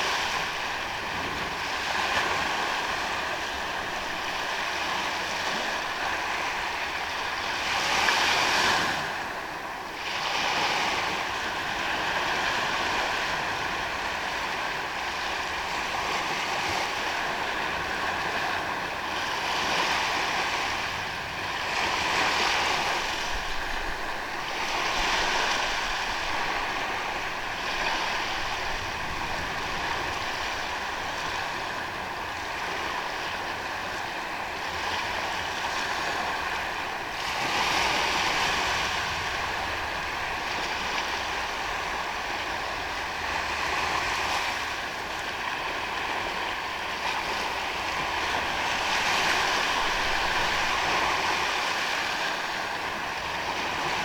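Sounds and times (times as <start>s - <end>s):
ocean surf breaking on a beach: 0.0s - 54.0s.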